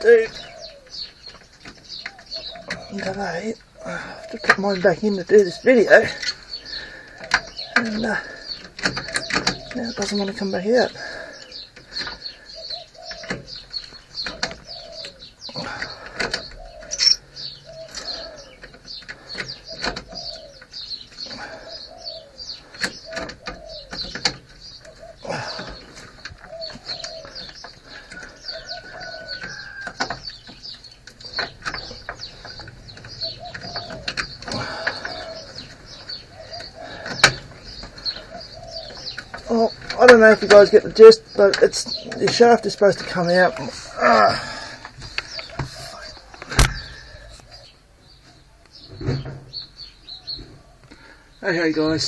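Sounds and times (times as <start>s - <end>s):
pigeons cooing: 0.0s - 52.0s
small birds chirping: 0.0s - 52.0s.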